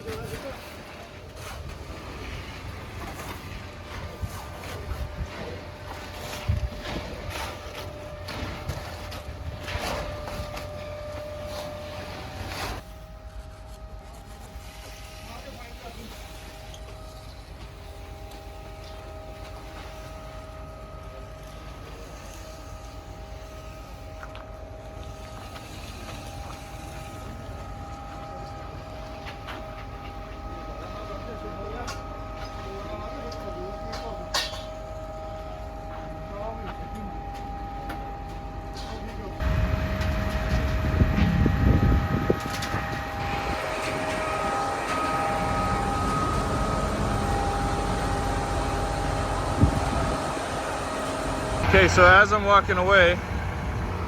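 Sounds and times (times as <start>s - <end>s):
steady mechanical drone: 0.0s - 54.0s
motor running with whine: 3.6s - 54.0s.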